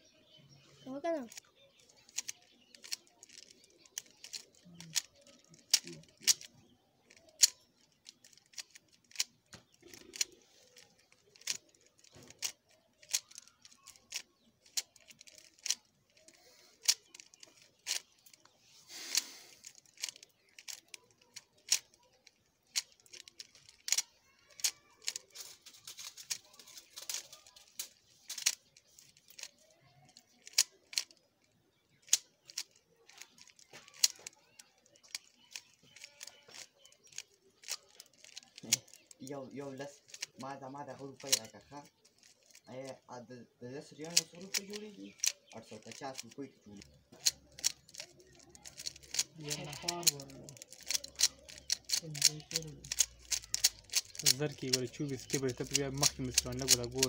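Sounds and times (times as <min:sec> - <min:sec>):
puzzle cube clicking: 0:00.8 - 0:42.7, 0:44.0 - 0:57.0.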